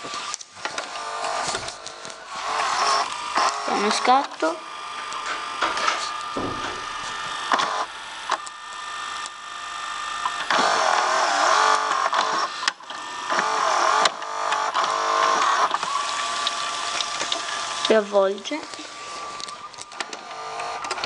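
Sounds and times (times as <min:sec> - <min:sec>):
tape reels whirring: 0:00.0 - 0:21.0.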